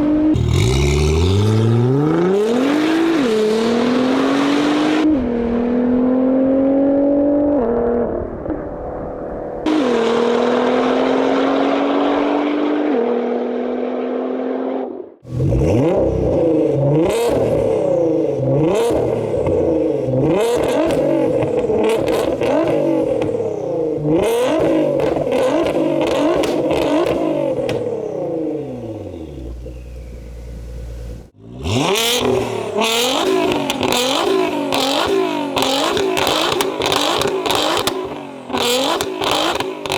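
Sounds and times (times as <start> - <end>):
stationary car engine revving: 0.0 - 8.2, 9.6 - 39.9
car engine accelerating: 0.0 - 8.6, 9.6 - 39.9.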